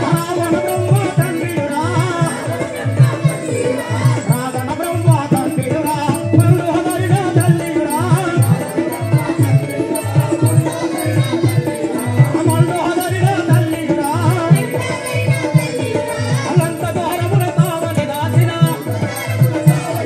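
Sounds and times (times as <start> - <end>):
drum steady beat: 0.0 - 20.0
high jingling percussion: 0.0 - 20.0.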